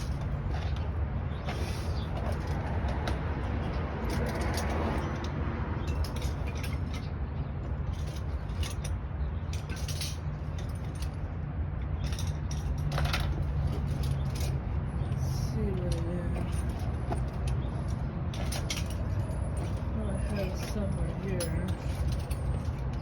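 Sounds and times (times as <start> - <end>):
hand tools clinking and rattling: 0.0 - 23.0.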